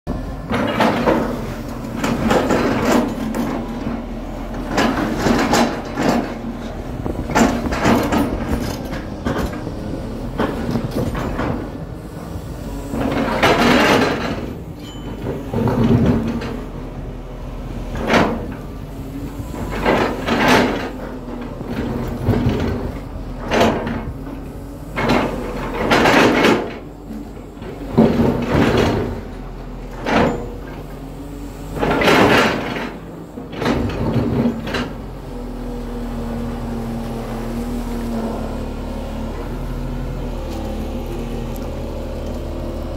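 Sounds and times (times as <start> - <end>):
excavator diesel engine: 0.1 - 42.9.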